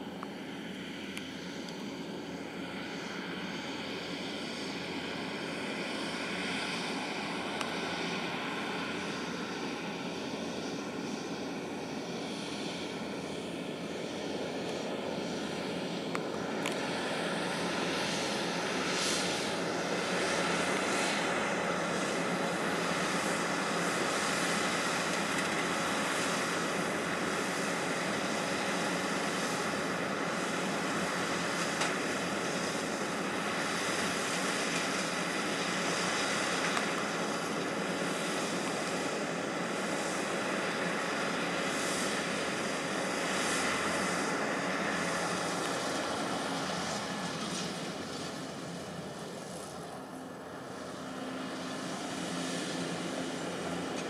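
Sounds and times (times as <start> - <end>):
tractor engine and baler drone: 0.0 - 54.0.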